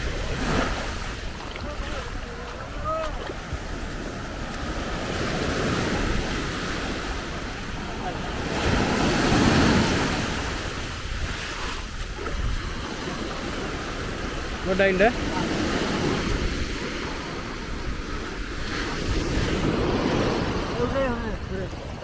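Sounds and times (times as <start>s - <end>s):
sea surf washing on sand: 0.0s - 22.0s.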